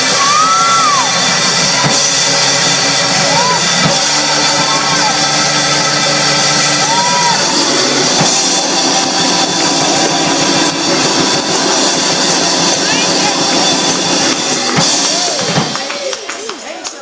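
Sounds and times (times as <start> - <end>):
live church music: 0.0 - 17.0.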